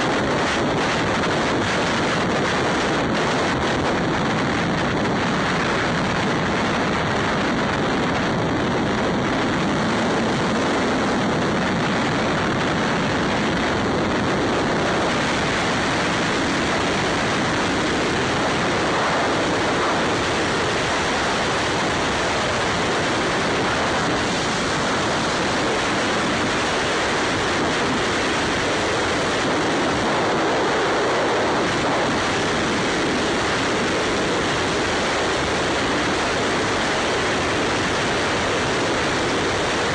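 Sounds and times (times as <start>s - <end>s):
wind and road noise roar: 0.0s - 39.9s.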